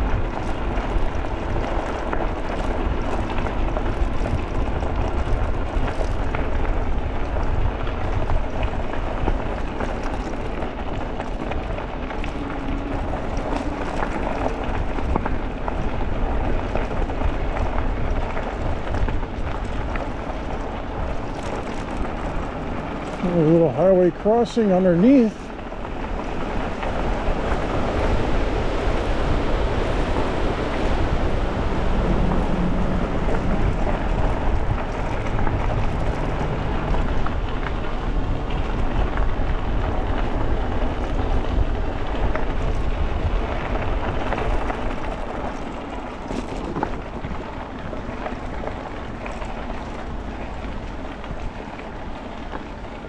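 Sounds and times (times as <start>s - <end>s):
bike tyres rolling: 0.0s - 53.0s
wind rushing over microphone: 0.0s - 53.0s.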